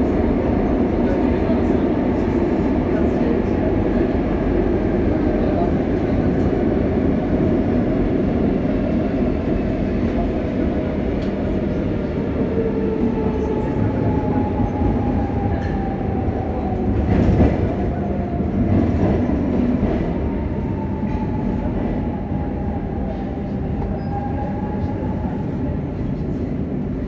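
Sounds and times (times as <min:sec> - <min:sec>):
steady train whine: 0:00.0 - 0:27.0
train wheels rumbling on track: 0:00.0 - 0:27.0.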